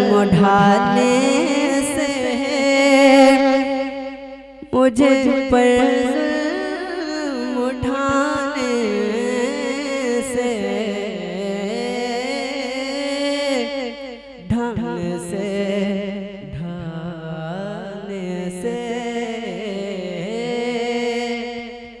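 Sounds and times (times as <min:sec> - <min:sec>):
man singing wordless melody: 0:00.0 - 0:22.0.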